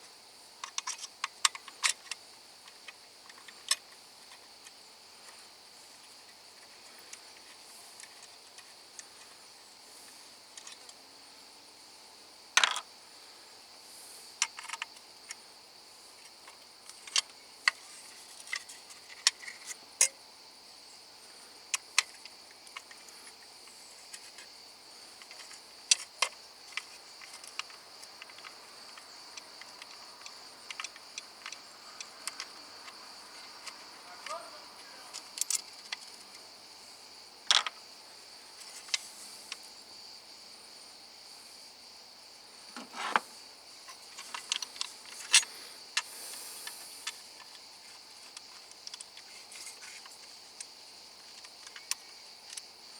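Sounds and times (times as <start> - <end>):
high-pitched hiss: 0.0 - 52.9.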